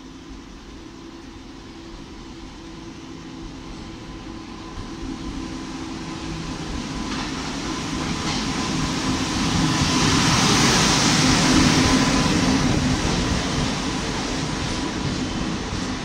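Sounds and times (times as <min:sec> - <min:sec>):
low train hum: 0:00.0 - 0:16.0
train wheels rumbling on rails: 0:00.0 - 0:16.0.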